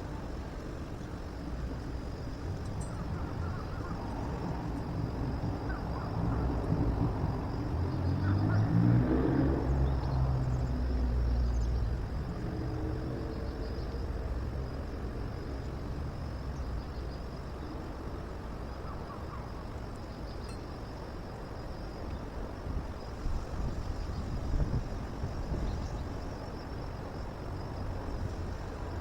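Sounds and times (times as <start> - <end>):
low steady background rumble: 0.0 - 8.6, 9.2 - 29.0.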